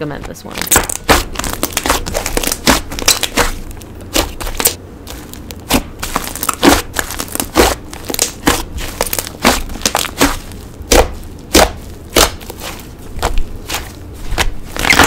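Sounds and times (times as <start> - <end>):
slime squishing and popping: 0.6 - 15.0.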